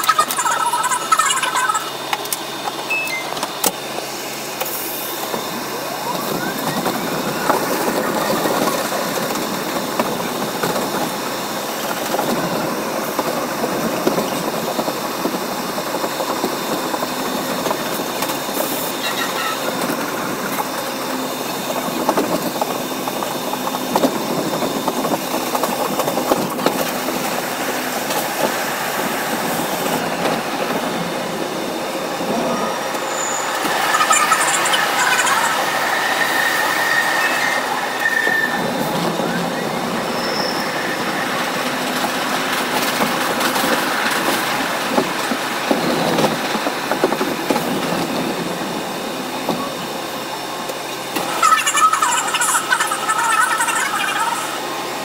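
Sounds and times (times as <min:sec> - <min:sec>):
subway train rumbling on track: 0:00.0 - 0:55.0.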